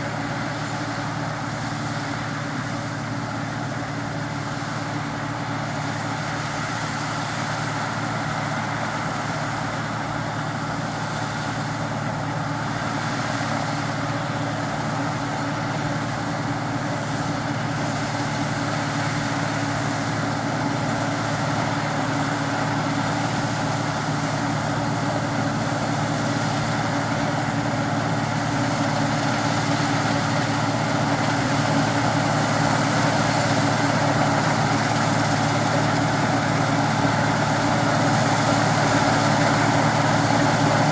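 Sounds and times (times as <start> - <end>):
combine harvester diesel engine: 0.0 - 40.9.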